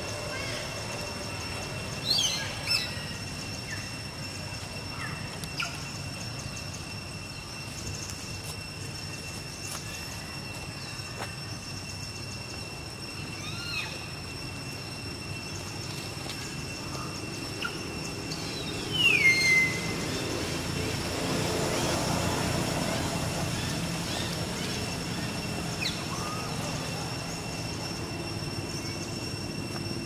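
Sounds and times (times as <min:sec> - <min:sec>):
high gliding chirping calls: 0:00.0 - 0:30.0
steady high-pitched whine: 0:00.0 - 0:30.0.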